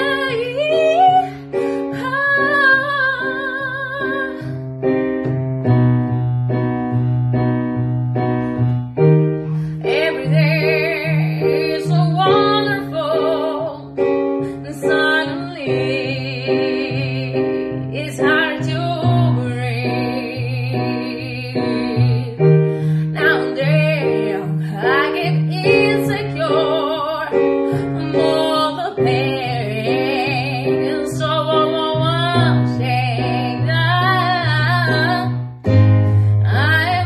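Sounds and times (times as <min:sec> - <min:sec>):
woman singing: 0:00.0 - 0:04.6, 0:09.7 - 0:37.0
electronic keyboard piano chords: 0:00.0 - 0:37.0.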